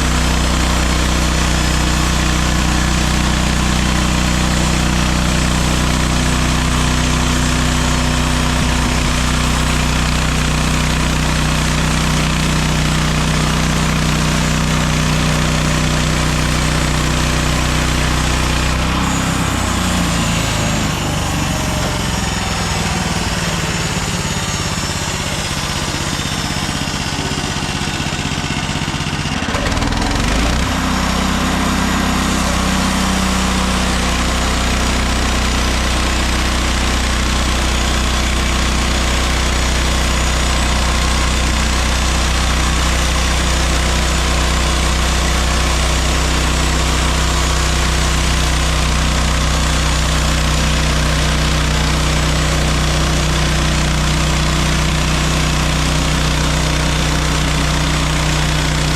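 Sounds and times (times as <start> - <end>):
sawmill gasoline engine running: 0.0 - 58.9.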